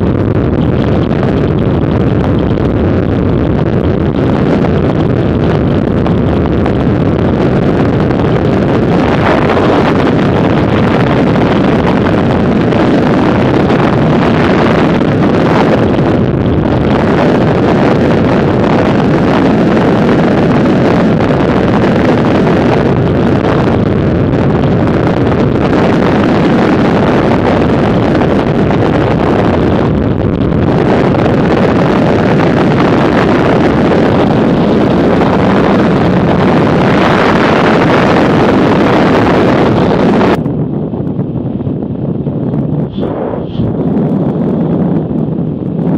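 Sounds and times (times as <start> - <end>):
wind roaring over microphone: 0.0 - 45.9.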